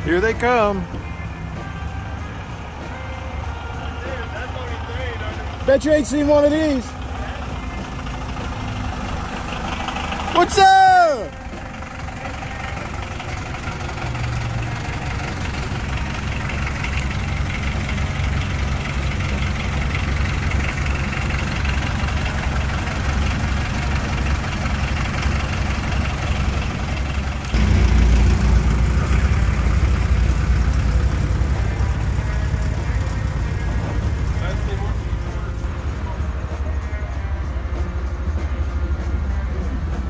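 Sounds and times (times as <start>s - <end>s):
pickup truck passing close: 0.0s - 40.0s
vehicle engines idling: 0.0s - 40.0s.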